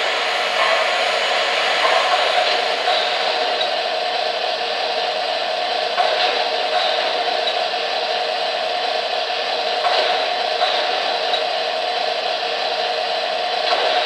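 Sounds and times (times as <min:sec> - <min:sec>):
model train rolling on track: 0:00.0 - 0:14.0.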